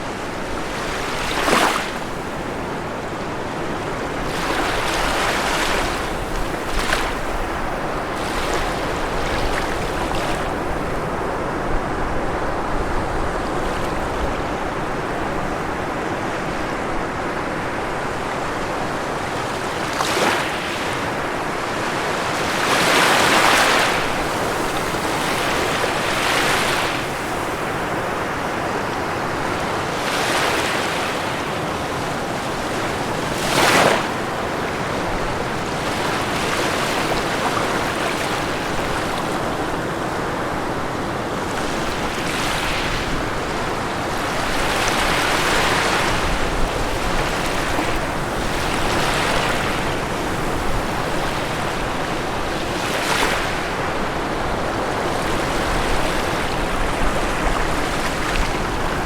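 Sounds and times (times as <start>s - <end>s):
ocean surf washing: 0.0s - 59.0s
waves breaking: 0.0s - 59.0s.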